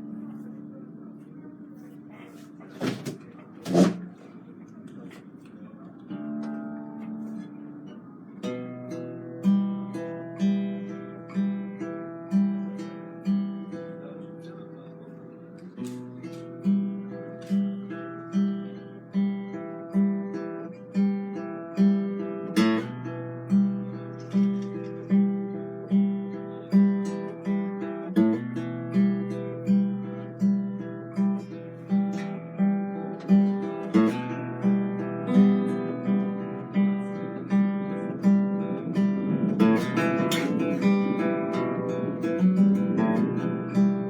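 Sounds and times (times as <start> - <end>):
picked acoustic guitar: 0.0 - 44.0.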